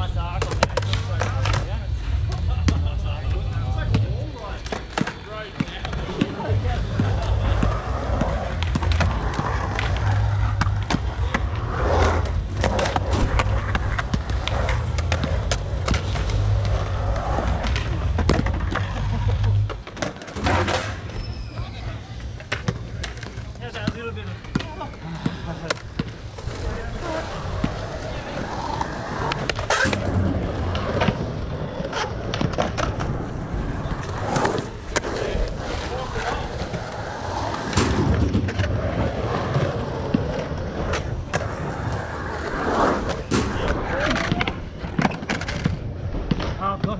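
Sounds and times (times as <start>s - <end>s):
skateboard wheels rolling on concrete: 0.0s - 46.9s
skateboard clicks and knocks: 4.6s - 21.3s, 22.1s - 23.6s, 25.6s - 46.9s.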